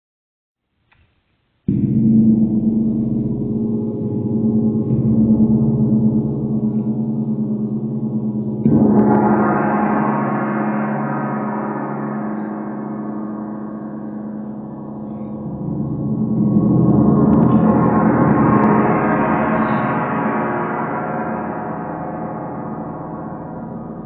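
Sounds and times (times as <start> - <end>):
large gong ringing: 1.7 - 24.0.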